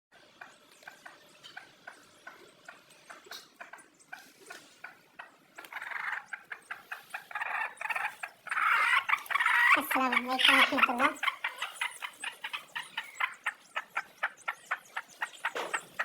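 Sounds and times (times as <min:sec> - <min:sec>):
chickens calling: 0:00.2 - 0:16.0.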